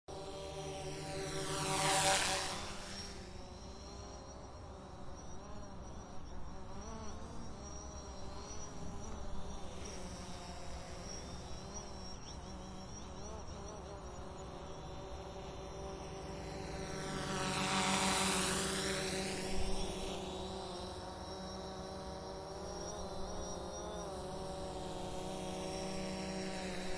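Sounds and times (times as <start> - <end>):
drone propellers buzzing: 0.1 - 26.9.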